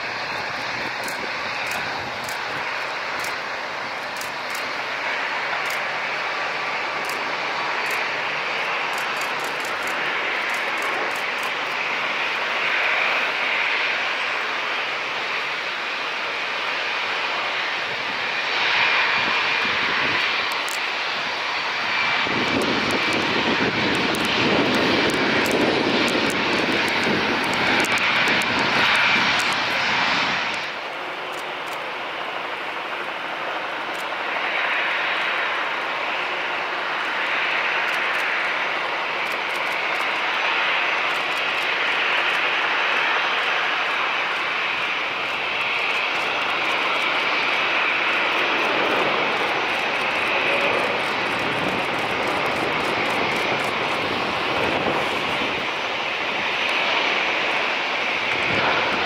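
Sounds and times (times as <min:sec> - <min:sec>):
airliner engine approaching: 0:00.0 - 0:59.0
jet engines landing: 0:00.0 - 0:59.0.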